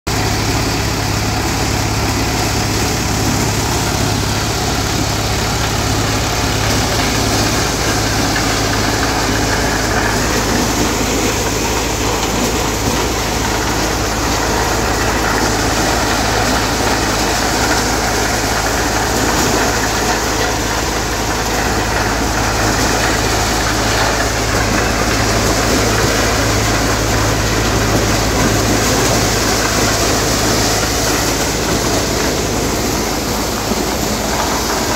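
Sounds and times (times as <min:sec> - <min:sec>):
thresher threshing: 0:00.1 - 0:34.9
tractor diesel engine running: 0:00.1 - 0:34.9.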